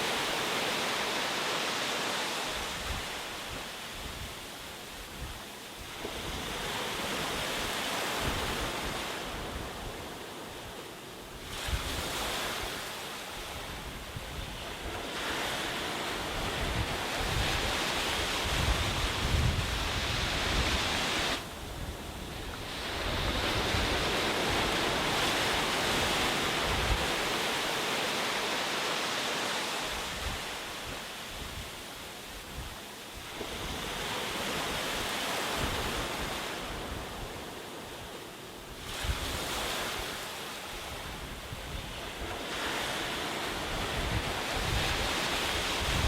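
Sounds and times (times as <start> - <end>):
sea waves breaking on beach: 0.0 - 46.0
wind rumble on microphone: 2.6 - 10.7, 11.3 - 27.7, 29.8 - 46.0.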